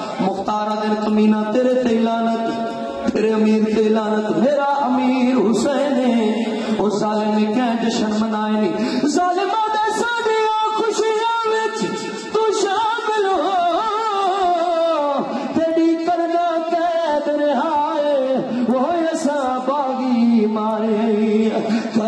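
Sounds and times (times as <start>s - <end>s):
man singing lament: 0.0s - 22.0s.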